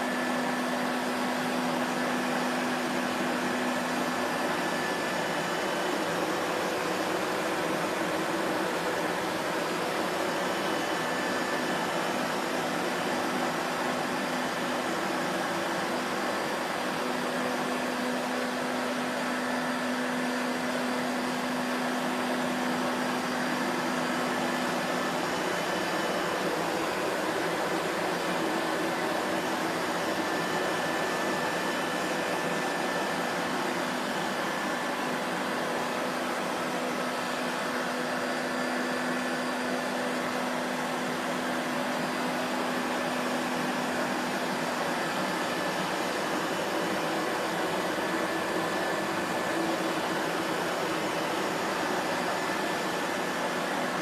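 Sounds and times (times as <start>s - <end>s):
vacuum cleaner motor running: 0.0s - 54.0s.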